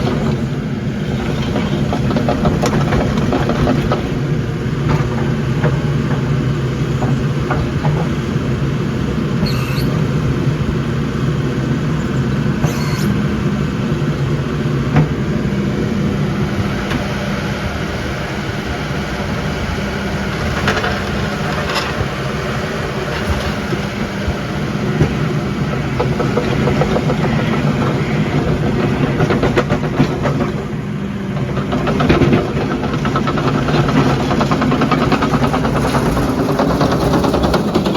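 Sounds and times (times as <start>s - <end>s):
bulldozer diesel engine running: 0.0s - 37.9s.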